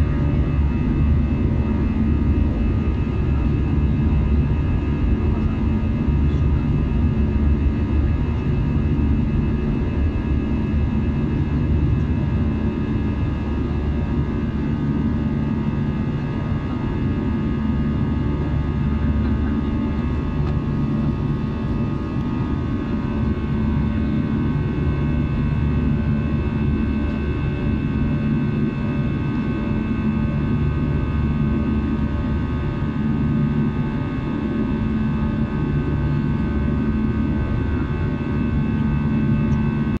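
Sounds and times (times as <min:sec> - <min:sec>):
jet engine drone in cabin: 0:00.0 - 0:40.0.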